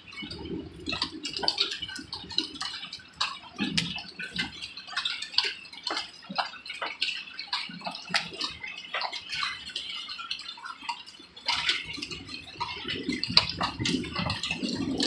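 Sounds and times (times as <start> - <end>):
hailstones pattering: 0.0 - 15.0.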